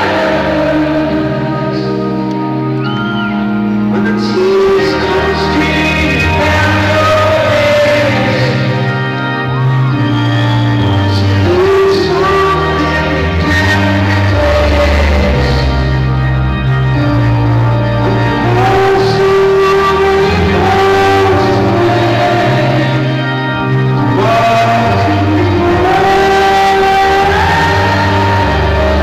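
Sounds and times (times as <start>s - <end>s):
live rock band playing: 0.0s - 29.0s
person singing: 0.0s - 29.0s.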